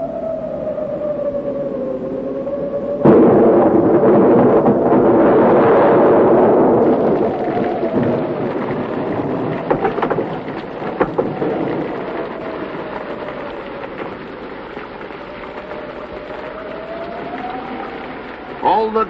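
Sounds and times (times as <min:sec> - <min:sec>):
thunder rumbling: 0:00.0 - 0:19.0
heavy rain: 0:03.0 - 0:19.0
sharp thunder cracks: 0:03.0 - 0:19.0.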